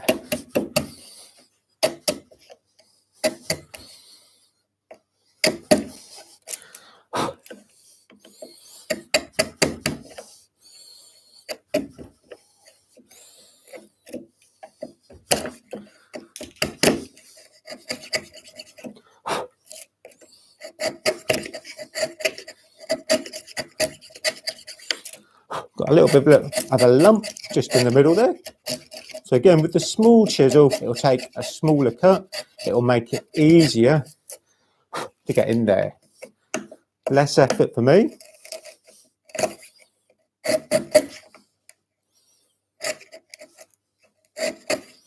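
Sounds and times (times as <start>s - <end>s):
chisel shaving wood: 0.0s - 4.4s, 5.4s - 34.4s, 35.0s - 41.4s, 42.2s - 45.0s.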